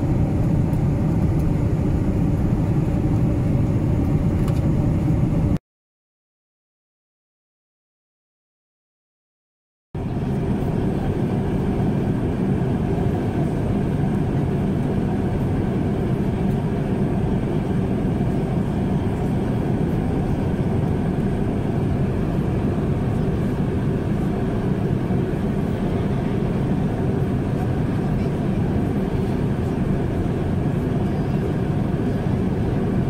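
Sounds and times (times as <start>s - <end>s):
airplane cabin drone: 0.0s - 5.6s, 10.0s - 33.0s.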